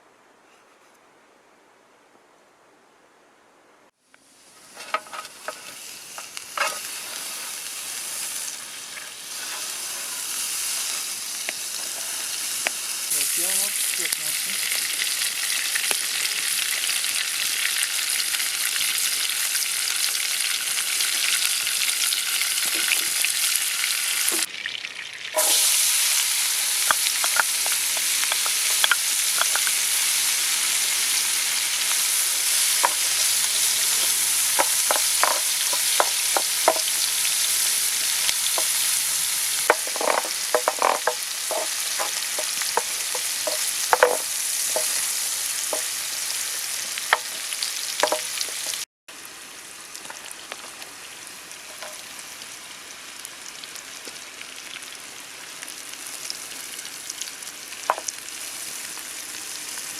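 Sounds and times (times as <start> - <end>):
onions sizzling in a pan: 4.1 - 59.9.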